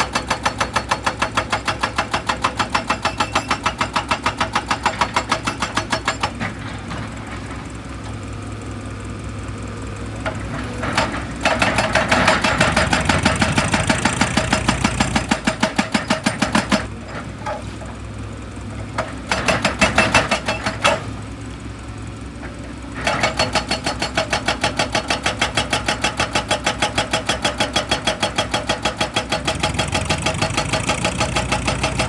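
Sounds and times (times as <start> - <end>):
diesel engine running: 3.8 - 32.0.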